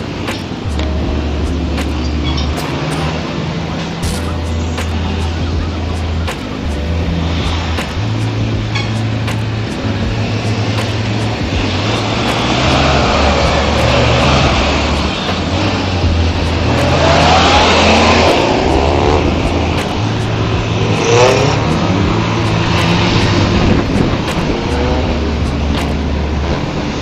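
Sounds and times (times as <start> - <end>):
vehicle engine accelerating: 0.0 - 27.0.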